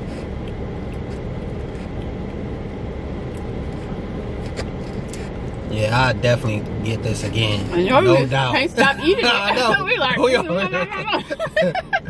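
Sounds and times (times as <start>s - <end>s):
car idling low rumble: 0.0s - 12.0s.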